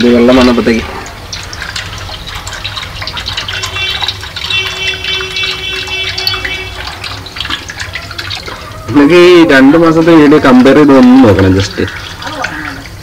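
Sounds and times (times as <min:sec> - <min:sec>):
water pouring and splashing: 0:00.0 - 0:13.0.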